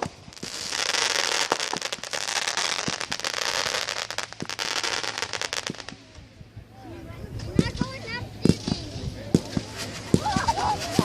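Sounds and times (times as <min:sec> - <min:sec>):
fireworks bangs: 0:00.0 - 0:06.2, 0:07.6 - 0:11.0
fireworks crackling: 0:00.0 - 0:06.4, 0:07.5 - 0:11.0.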